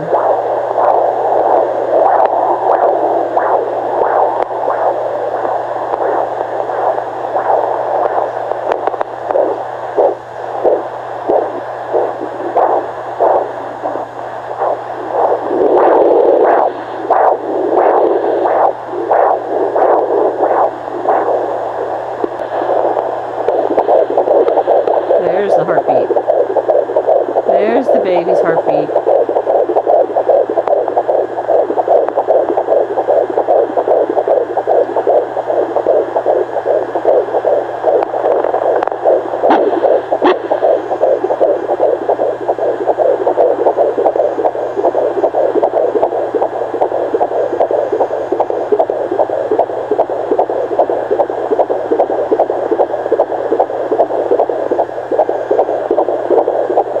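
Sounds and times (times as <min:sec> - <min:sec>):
fetal heartbeat pulsing whoosh: 0:00.0 - 0:57.0.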